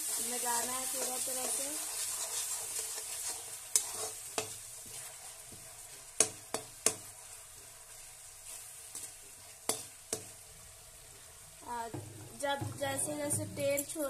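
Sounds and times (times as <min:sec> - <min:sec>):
sauce sizzling in oil: 0:00.0 - 0:14.0.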